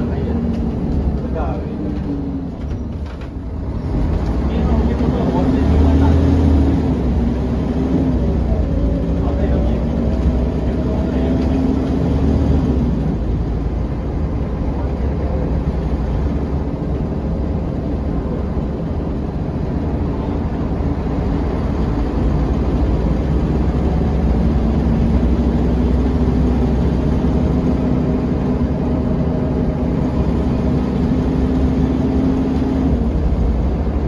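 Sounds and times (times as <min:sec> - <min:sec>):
bus diesel engine droning: 0:00.0 - 0:34.0.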